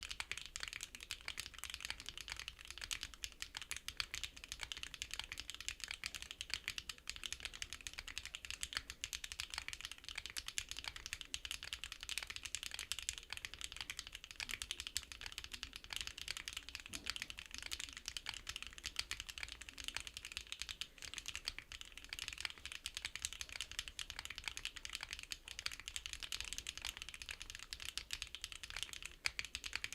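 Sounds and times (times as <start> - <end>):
fast typing on mechanical keyboard: 0.0 - 29.9.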